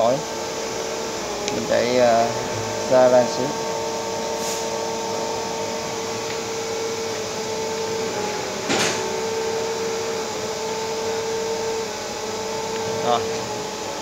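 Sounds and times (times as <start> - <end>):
lathe humming with faint whine: 0.0 - 14.0.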